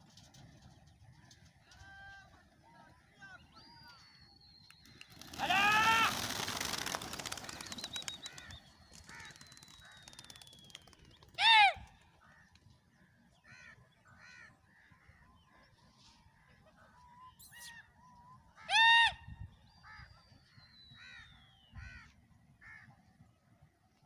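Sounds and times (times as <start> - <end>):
birds calling: 0.3 - 23.5.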